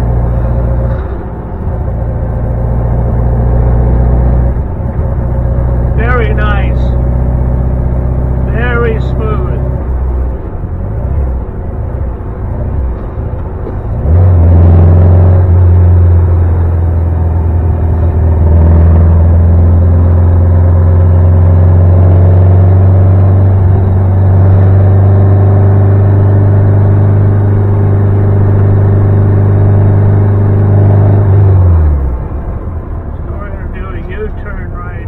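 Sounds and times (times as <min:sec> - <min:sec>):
car engine drone: 0:00.0 - 0:35.0
road noise: 0:00.0 - 0:35.0.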